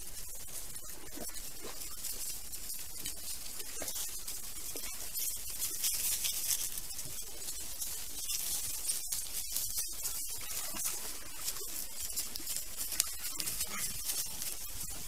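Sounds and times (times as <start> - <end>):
piglets rustling and scratching: 0.0 - 15.0.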